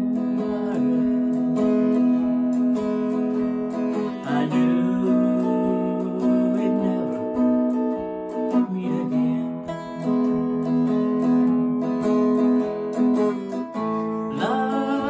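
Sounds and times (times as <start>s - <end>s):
electric guitar country melody: 0.0s - 15.0s.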